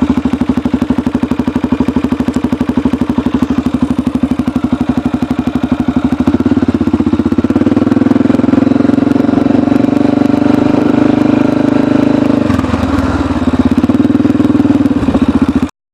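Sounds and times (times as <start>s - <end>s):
quad bike engine revving: 0.0s - 15.7s.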